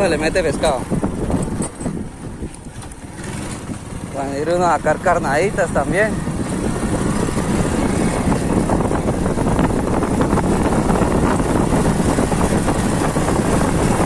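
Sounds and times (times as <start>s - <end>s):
motorcycle engine running: 0.0s - 14.0s
road rumble: 0.0s - 14.0s
wind noise: 0.0s - 14.0s.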